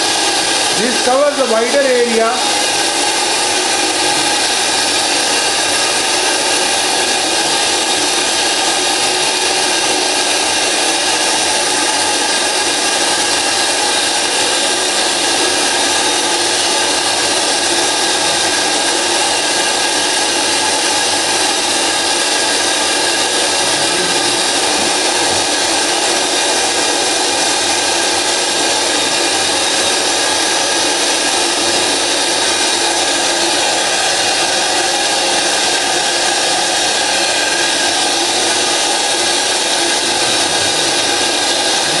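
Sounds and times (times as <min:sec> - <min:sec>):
vacuum cleaner rushing air: 0:00.0 - 0:42.0.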